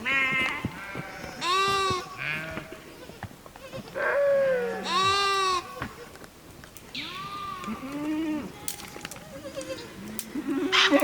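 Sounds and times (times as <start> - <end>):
sheep bleating: 0.0 - 6.1, 7.0 - 11.0.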